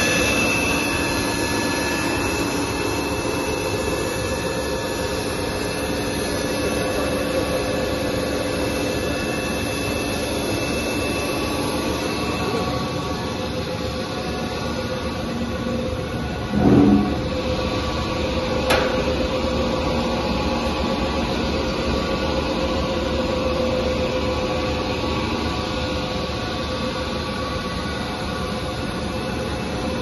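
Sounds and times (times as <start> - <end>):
machinery drone and hum: 0.0 - 30.0.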